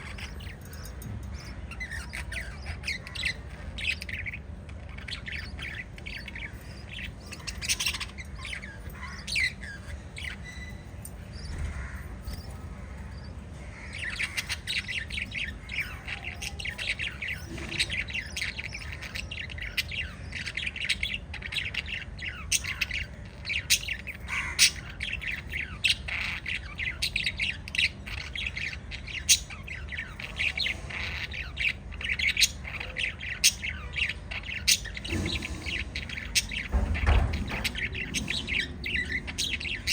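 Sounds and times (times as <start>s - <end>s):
parrots chirping and squawking: 0.0s - 39.9s
steady low hum: 0.0s - 39.9s.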